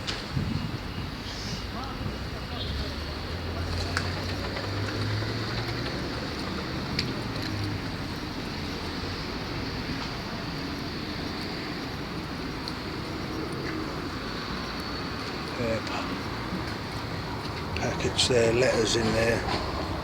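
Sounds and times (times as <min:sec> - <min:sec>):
road traffic noise: 0:00.0 - 0:20.0
vehicle engine hum: 0:00.0 - 0:20.0.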